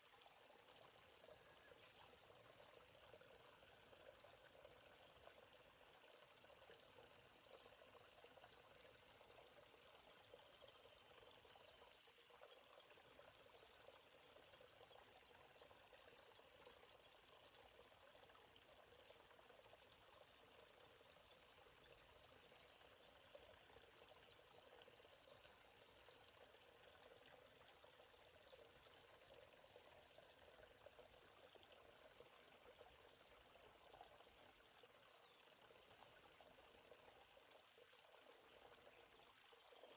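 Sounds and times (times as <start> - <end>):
faint babbling stream: 0.0 - 39.9
insects chorus: 0.0 - 39.9.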